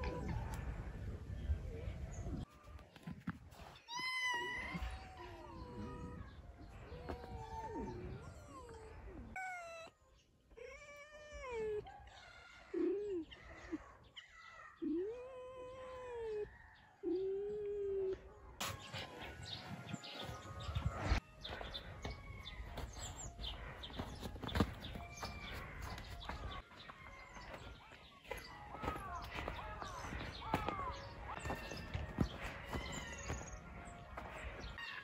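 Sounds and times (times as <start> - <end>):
foxes whining and yowling: 3.8 - 35.0.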